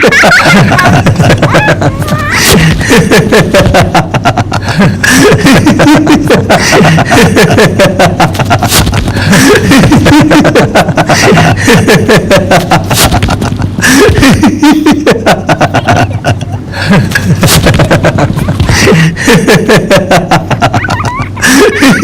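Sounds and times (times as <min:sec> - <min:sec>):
people laughing: 0:00.0 - 0:22.0.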